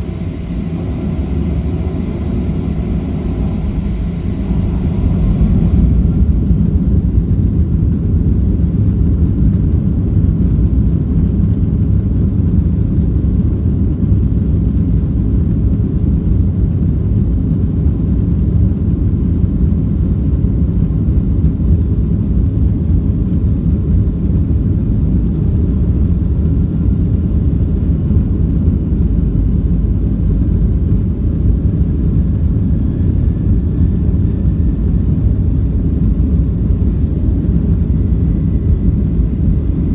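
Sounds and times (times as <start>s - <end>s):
jet engines rumbling on takeoff: 0.0s - 39.9s.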